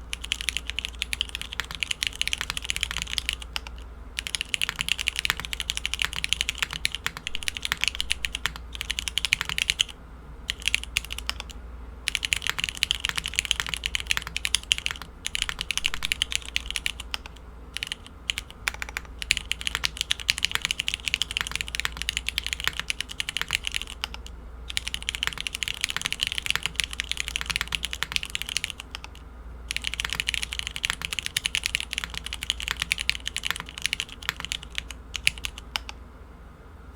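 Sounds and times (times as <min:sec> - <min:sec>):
fast mechanical keyboard typing: 0:00.0 - 0:35.9.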